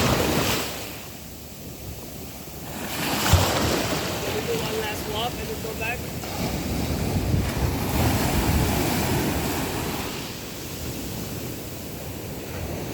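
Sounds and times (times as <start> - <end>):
sea waves breaking on beach: 0.0 - 12.9
wind rumbling on microphone: 0.0 - 12.9.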